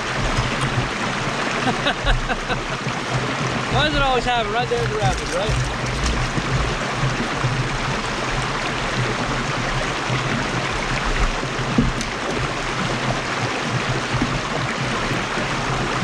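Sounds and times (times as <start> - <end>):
river water rushing over rapids: 0.0 - 16.0.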